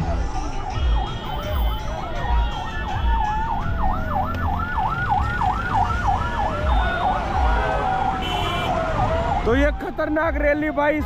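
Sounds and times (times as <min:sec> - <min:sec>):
electronic sirens wailing: 0:00.8 - 0:11.0.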